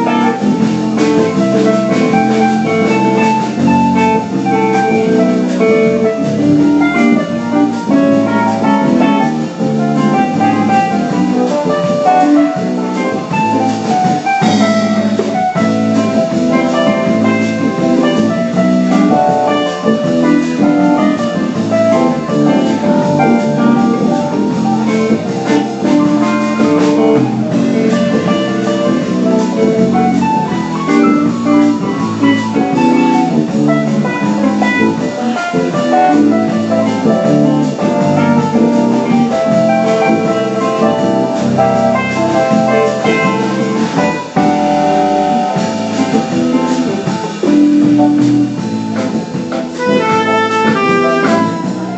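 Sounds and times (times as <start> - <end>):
steel pan band playing: 0.0 - 51.9.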